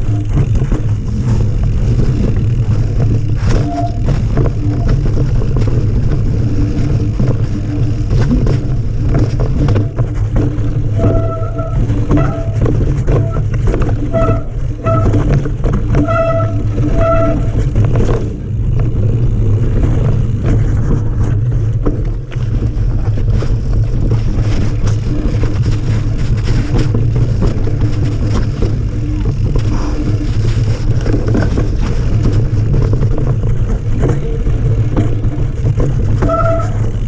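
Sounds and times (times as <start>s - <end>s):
bike rattling and clattering: 0.0s - 37.0s
wind rumble on microphone: 0.0s - 37.0s.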